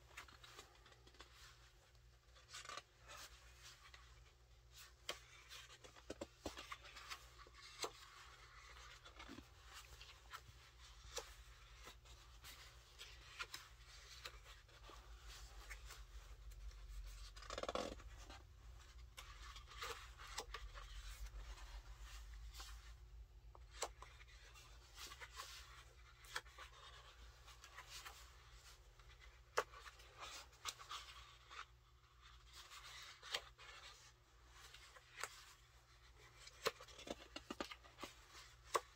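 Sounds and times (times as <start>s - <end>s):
paper pages rustling: 0.0s - 38.9s
pages ticking and tapping: 4.7s - 38.9s.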